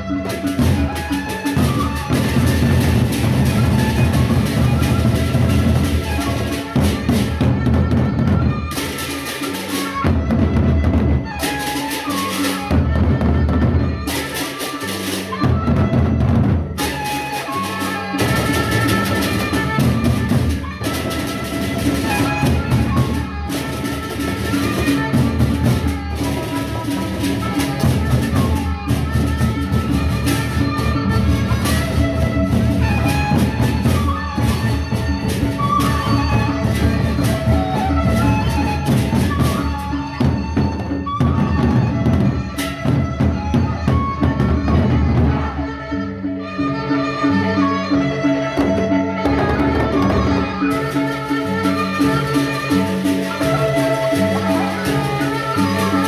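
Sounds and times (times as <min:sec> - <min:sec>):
large drums beaten with sticks: 0:00.0 - 0:45.7, 0:48.6 - 0:56.0.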